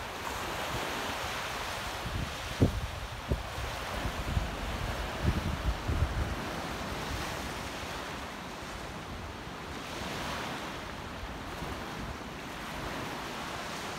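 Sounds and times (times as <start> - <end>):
surf washing up beach: 0.0 - 13.9.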